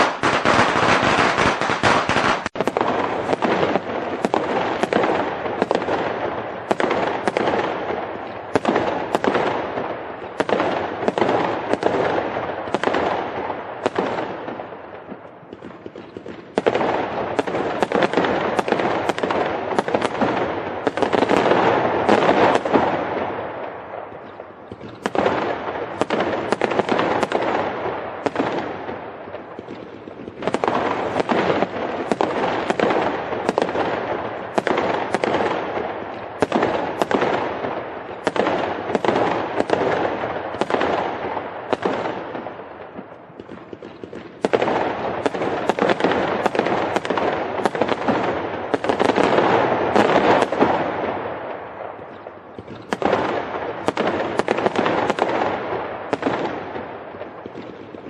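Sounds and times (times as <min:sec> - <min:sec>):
firework bangs: 0:00.0 - 0:58.0
fireworks crackling: 0:00.0 - 0:58.0.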